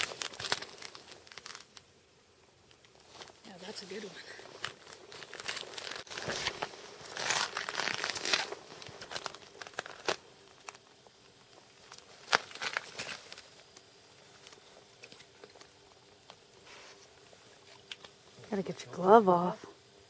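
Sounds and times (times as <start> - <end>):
rustling and crinkling: 0.0 - 1.9, 2.6 - 18.6.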